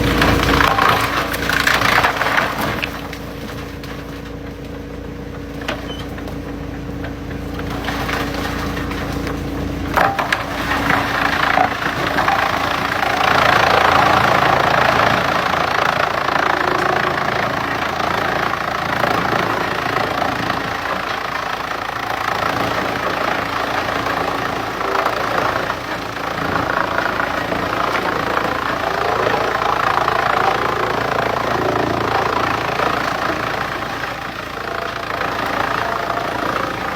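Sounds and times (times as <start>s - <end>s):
wood chipper engine running: 0.0s - 36.9s
wood crunching and splintering: 0.0s - 36.9s.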